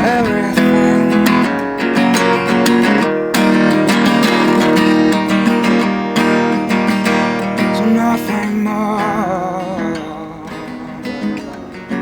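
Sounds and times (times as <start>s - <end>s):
guitar chords strummed: 0.0s - 12.0s.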